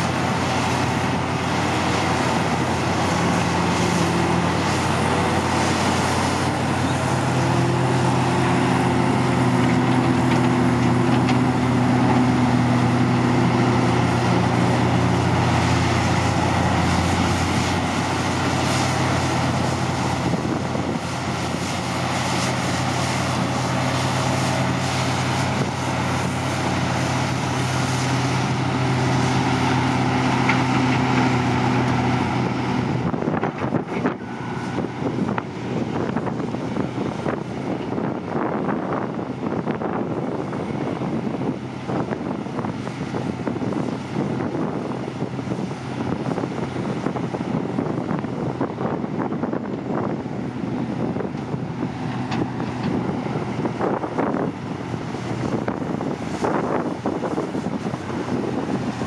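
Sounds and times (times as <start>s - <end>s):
dump truck engine running: 0.0s - 59.0s
excavator diesel engine: 0.0s - 59.0s.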